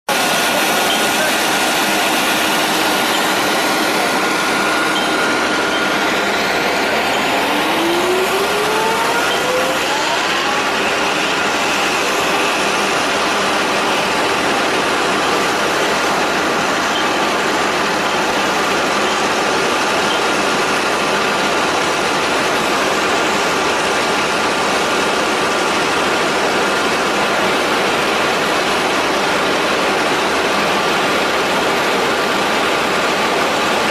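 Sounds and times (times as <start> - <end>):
sprayer rushing noise: 0.1 - 33.9
truck engine: 0.1 - 33.9
rising whine: 0.2 - 29.2.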